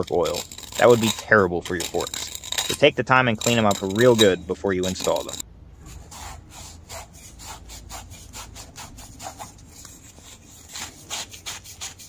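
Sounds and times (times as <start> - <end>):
rag wiping metal tube: 0.0 - 12.0.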